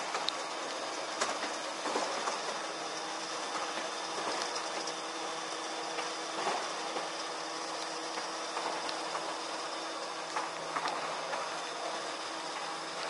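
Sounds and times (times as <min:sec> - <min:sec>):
ladder lift mechanical whir: 0:00.0 - 0:13.0.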